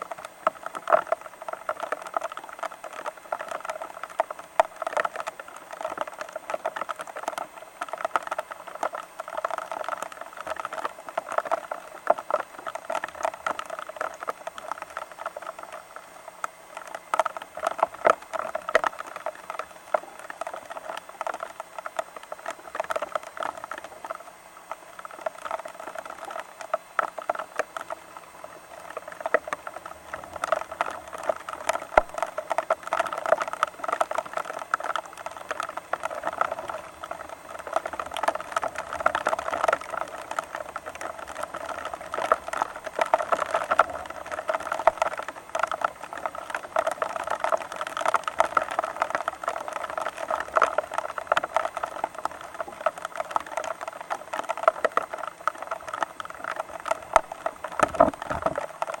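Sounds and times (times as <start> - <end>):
rain pattering on surface: 0.0 - 59.0.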